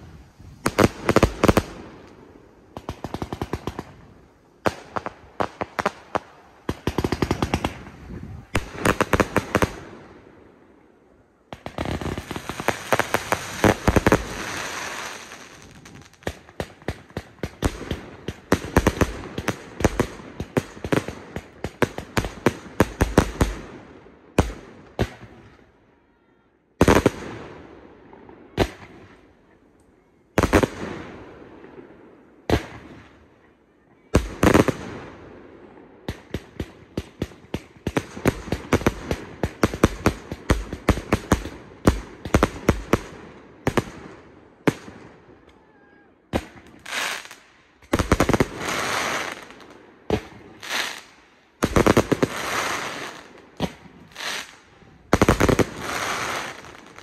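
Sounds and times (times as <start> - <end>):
firework bangs and crackling: 0.0 - 10.8, 11.5 - 25.7, 26.8 - 29.3, 30.3 - 33.2, 34.1 - 45.5, 46.3 - 57.0.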